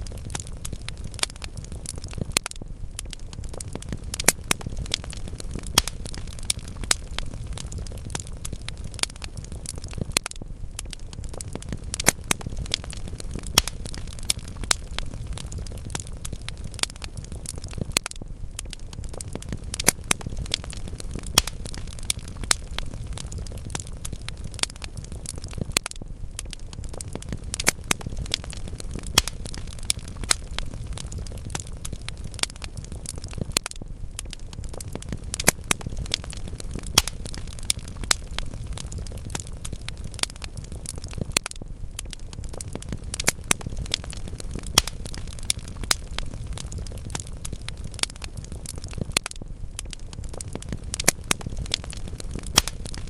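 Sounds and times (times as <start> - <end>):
fire crackling and popping: 0.0 - 53.0
wood fire rumbling: 0.0 - 53.0.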